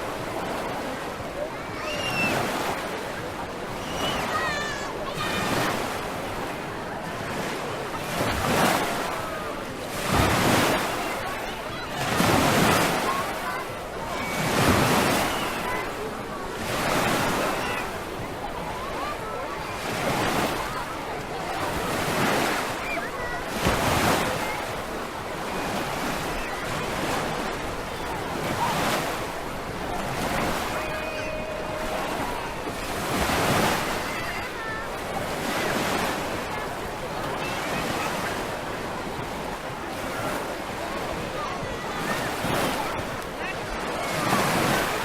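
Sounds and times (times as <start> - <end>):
sea waves breaking on shore: 0.0 - 45.0.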